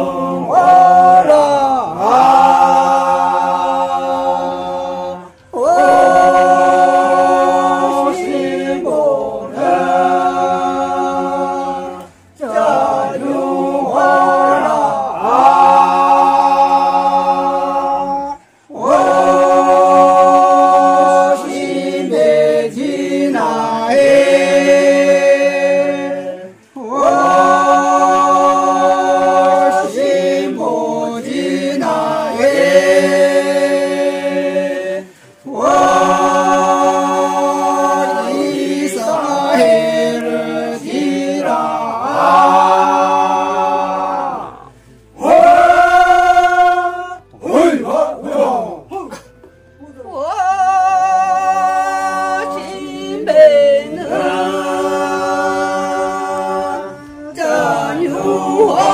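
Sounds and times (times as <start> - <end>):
unaccompanied group singing: 0.0 - 58.9.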